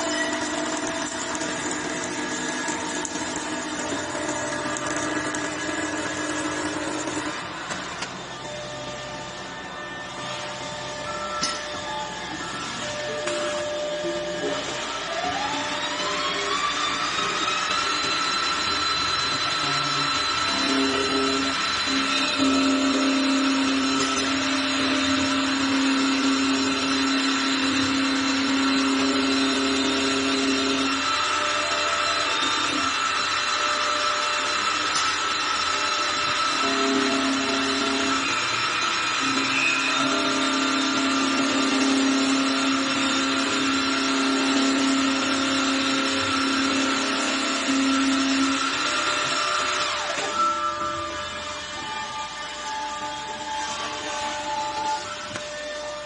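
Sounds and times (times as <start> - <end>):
lathe motor whine: 0.0 - 56.0.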